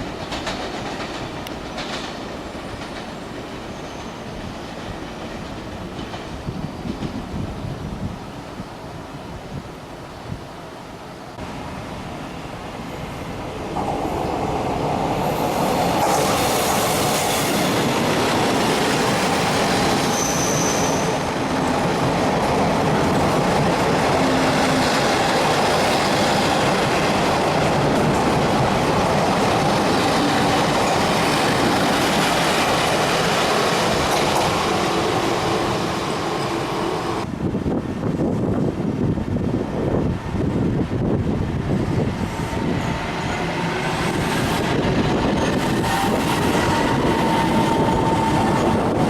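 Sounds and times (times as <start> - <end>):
train wheels rushing on rails: 0.0 - 8.1, 11.3 - 49.0.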